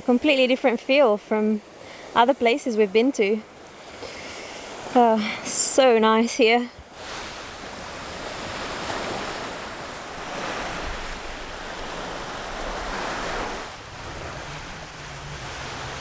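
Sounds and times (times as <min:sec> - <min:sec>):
surf washing onto beach: 0:01.6 - 0:16.0.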